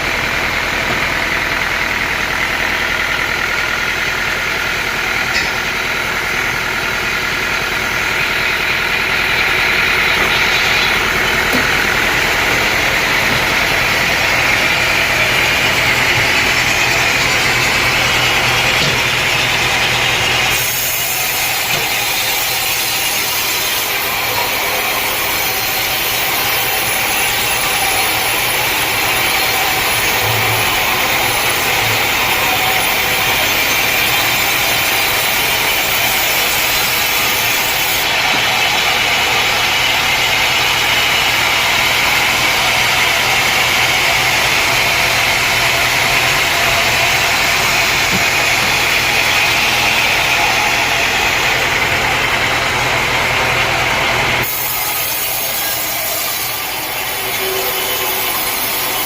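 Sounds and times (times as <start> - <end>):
sawmill engine droning: 0.0 - 59.0.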